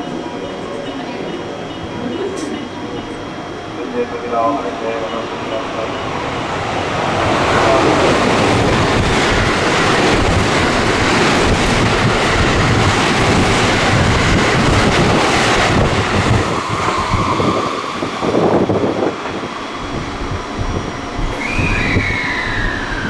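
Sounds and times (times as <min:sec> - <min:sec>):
electric train rushing past: 0:00.0 - 0:23.0.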